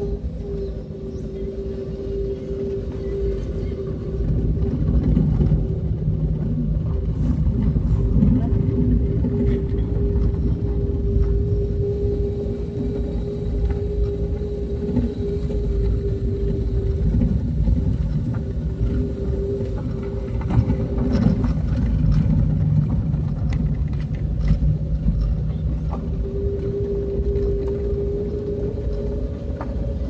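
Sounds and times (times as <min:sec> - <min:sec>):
vehicle engine hum: 0:00.0 - 0:30.0.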